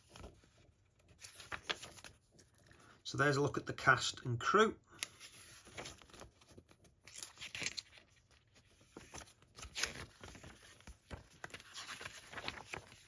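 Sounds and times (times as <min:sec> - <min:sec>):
paper pages rustling: 0:00.0 - 0:02.8, 0:05.0 - 0:13.0.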